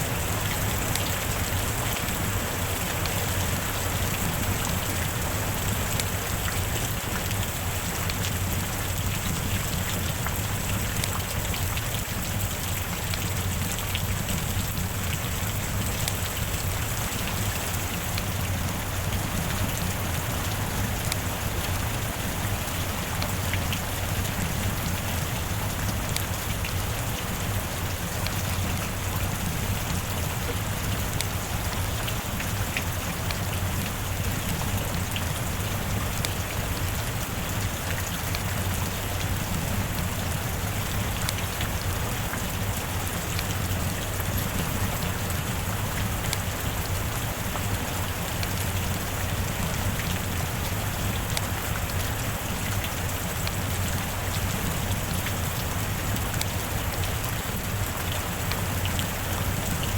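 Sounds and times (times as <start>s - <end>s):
constant low rumble: 0.0s - 59.9s
raindrops ticking: 0.0s - 59.9s
steady rain hiss: 0.0s - 59.9s.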